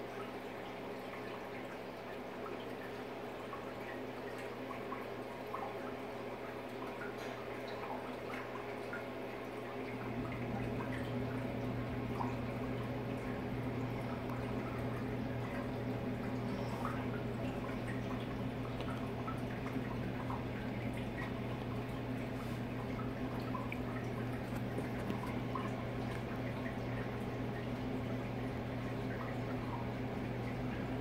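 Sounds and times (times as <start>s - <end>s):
low electrical hum: 0.0s - 31.0s
water trickling and dripping: 0.0s - 31.0s.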